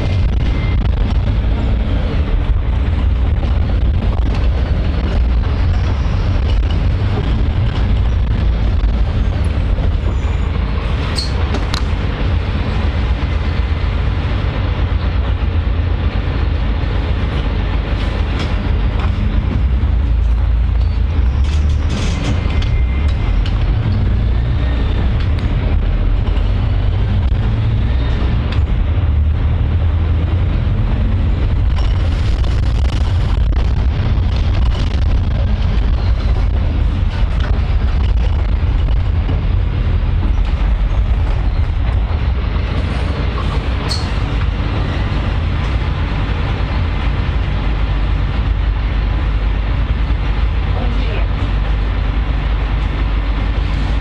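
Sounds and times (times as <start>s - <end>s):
train carriage rumble and rattle: 0.0s - 54.0s.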